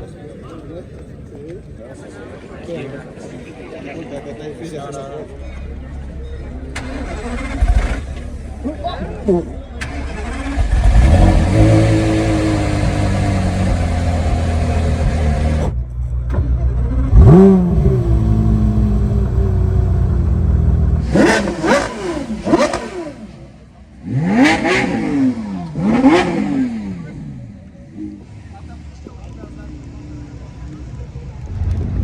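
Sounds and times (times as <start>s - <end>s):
sports car engine revving: 5.6s - 32.0s.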